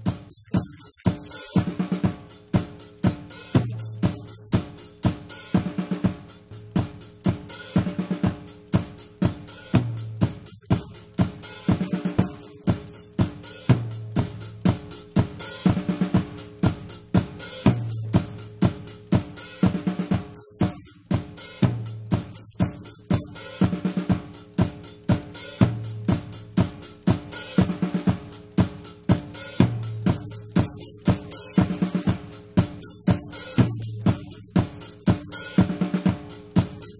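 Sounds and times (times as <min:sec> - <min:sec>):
drum kit beat: 0:00.0 - 0:36.9.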